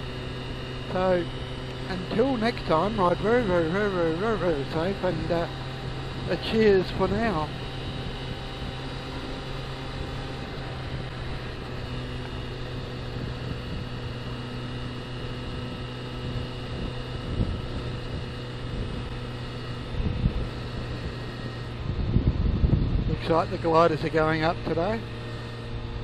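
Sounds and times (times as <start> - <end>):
motorcycle engine cruising: 0.0 - 26.0
wind rushing over microphone: 0.4 - 25.0.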